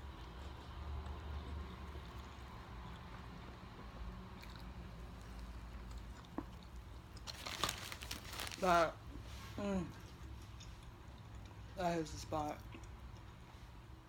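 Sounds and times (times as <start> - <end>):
person chewing food: 0.0 - 8.7, 9.9 - 11.8, 12.5 - 14.0.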